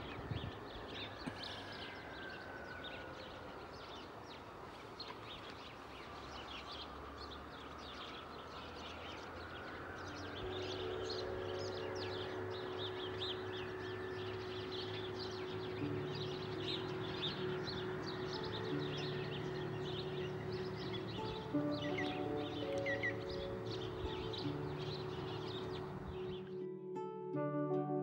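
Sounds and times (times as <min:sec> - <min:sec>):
birds chirping: 0:00.0 - 0:26.8
soft held music tones: 0:00.0 - 0:28.0.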